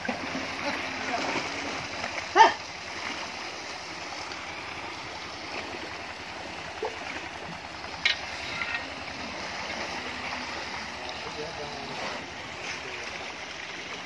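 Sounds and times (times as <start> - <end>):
water sloshing around cattle: 0.0 - 14.0.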